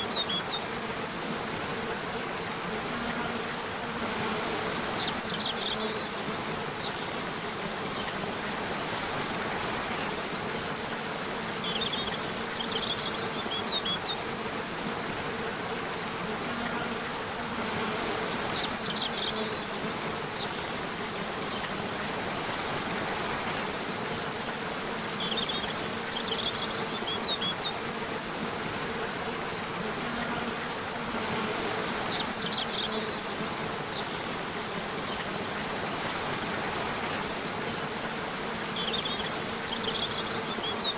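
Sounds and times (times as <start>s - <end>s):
insects buzzing: 0.0s - 40.9s
rush like flowing water: 0.0s - 40.9s.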